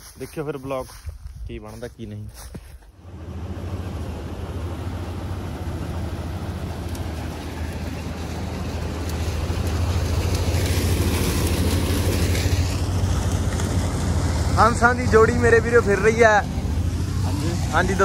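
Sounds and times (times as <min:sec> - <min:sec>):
diesel farm machinery running: 0:02.9 - 0:18.0.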